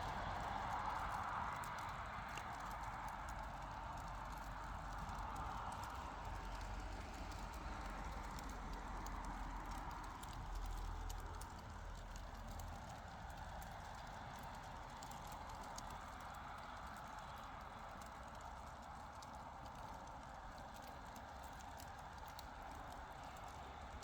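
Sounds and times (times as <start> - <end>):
faint crackling pops and clicks: 0.0 - 24.0.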